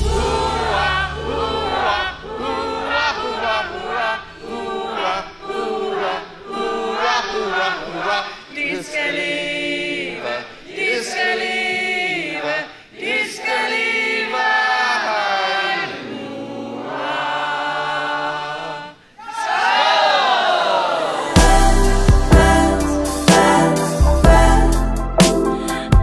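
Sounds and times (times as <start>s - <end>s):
group singing together: 0.0s - 26.0s.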